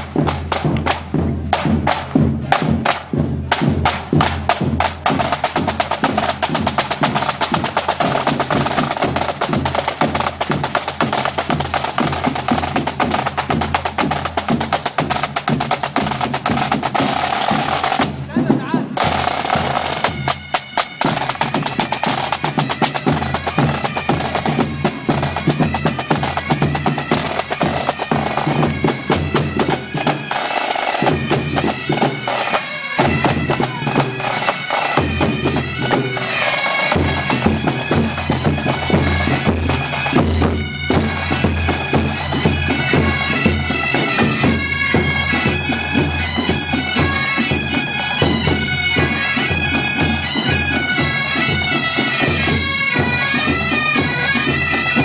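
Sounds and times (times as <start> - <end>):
bass and snare drums: 0.0 - 55.0
bagpipes playing: 4.3 - 18.1, 19.0 - 55.0.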